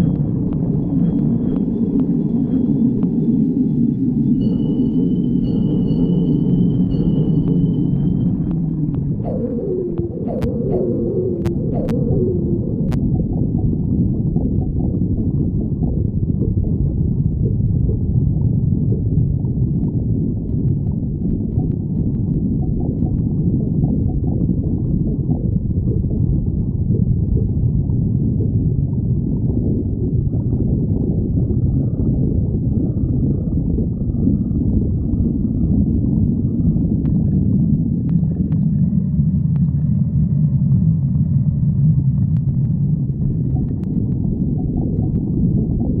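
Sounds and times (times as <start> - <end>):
stomach growling: 6.9 - 46.0.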